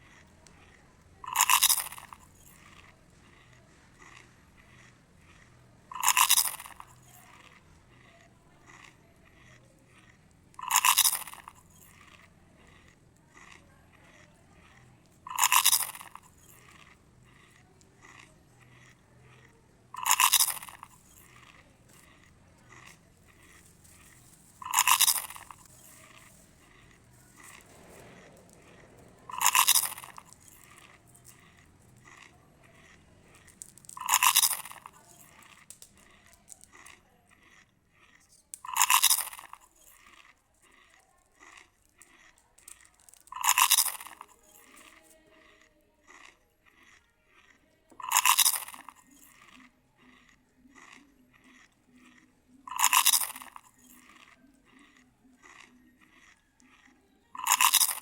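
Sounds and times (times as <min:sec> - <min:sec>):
crunchy bites: 0:00.0 - 0:58.0
faint chewing: 0:00.0 - 0:58.0.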